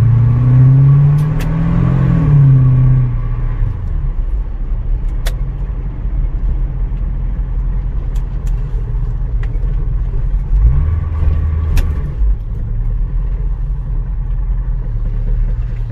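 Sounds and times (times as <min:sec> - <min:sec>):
car engine droning: 0:00.0 - 0:15.9.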